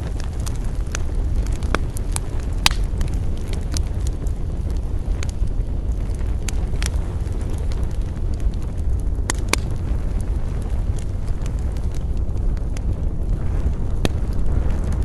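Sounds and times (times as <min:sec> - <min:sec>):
campfire rumble: 0:00.0 - 0:15.0
wood crackling and popping: 0:00.0 - 0:15.0.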